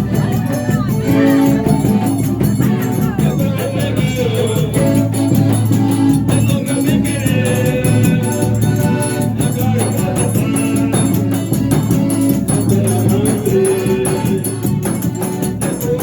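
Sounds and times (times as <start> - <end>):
forro music with singing: 0.0 - 16.0.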